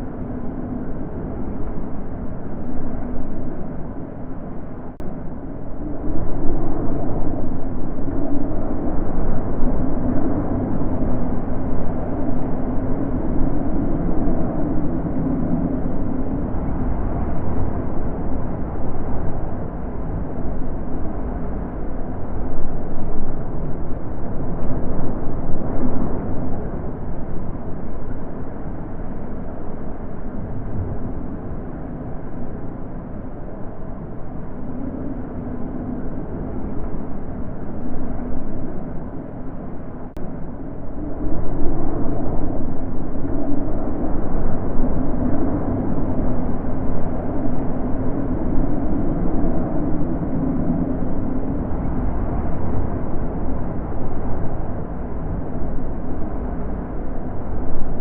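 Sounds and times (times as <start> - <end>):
wind blowing in gusts: 0.0 - 58.0.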